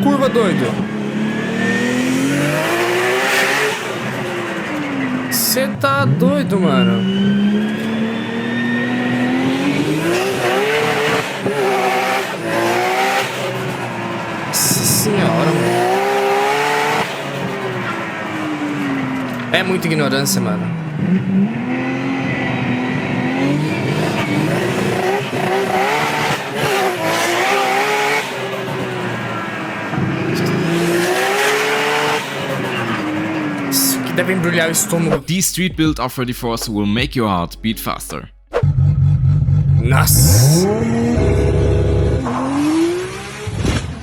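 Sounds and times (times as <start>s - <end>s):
car engine revving hard: 0.3s - 5.4s, 7.0s - 19.1s, 20.8s - 34.8s, 38.6s - 44.0s.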